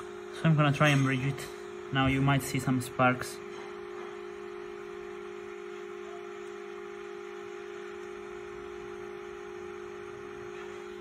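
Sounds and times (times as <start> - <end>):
steady hum of fixed tones: 0.0 - 11.0.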